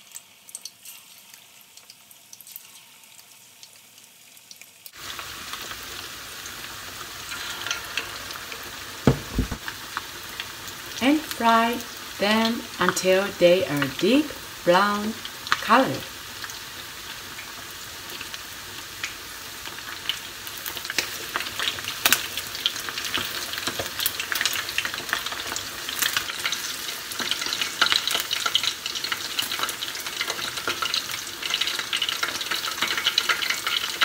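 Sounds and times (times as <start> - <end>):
chicken deep-frying in oil: 0.0 - 34.0.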